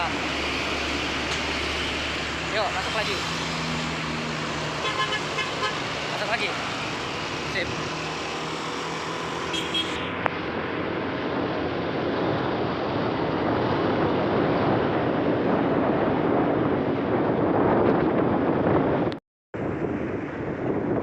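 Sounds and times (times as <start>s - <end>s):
vehicle engine: 0.0s - 17.2s
road noise: 0.0s - 21.0s.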